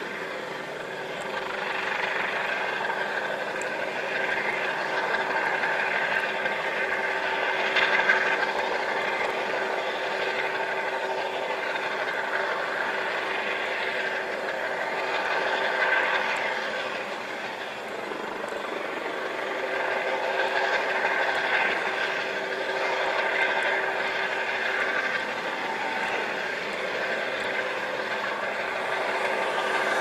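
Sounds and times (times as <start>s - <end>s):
rain: 0.0s - 30.0s
wind: 0.0s - 30.0s.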